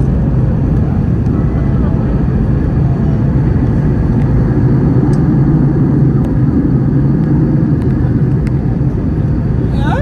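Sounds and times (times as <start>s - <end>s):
jet engines and rushing air: 0.0s - 10.0s.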